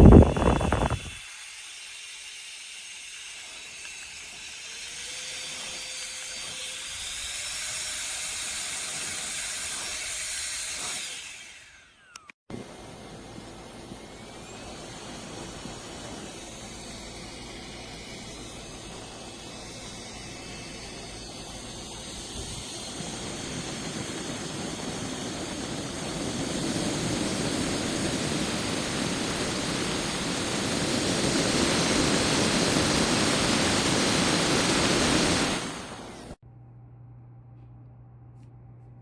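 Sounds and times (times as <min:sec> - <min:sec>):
handheld fan whooshing: 0:00.0 - 0:01.3, 0:03.4 - 0:36.4.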